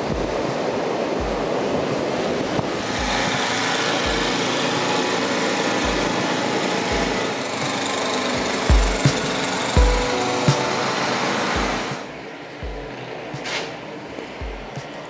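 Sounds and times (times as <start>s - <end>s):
blizzard wind rushing: 0.0s - 14.1s.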